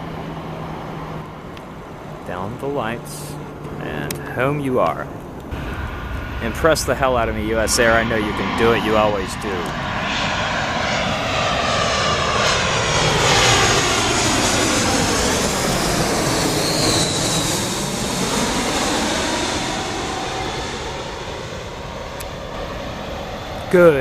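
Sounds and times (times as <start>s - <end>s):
jet airliner passing by: 0.0s - 24.0s.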